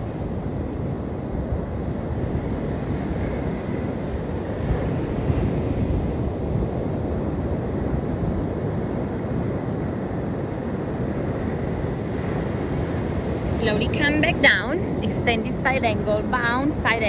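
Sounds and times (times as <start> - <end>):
sea surf rushing: 0.0 - 17.0
wind buffeting microphone: 0.0 - 17.0.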